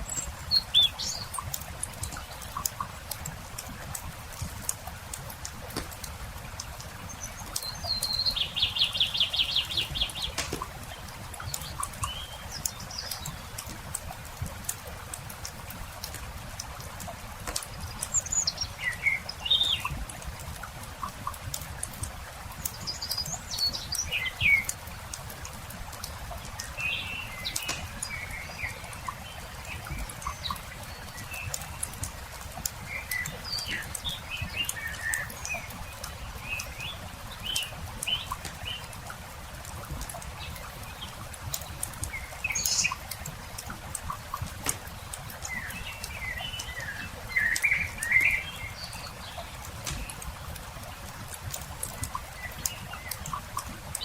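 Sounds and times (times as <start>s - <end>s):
campfire crackling: 0.0s - 23.2s, 23.8s - 54.0s
songbirds chirping: 0.0s - 54.0s.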